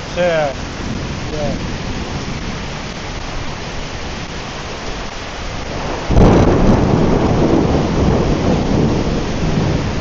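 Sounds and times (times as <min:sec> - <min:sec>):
heavy rain pouring: 0:00.0 - 0:10.0
rumbling thunderclap: 0:00.3 - 0:10.0.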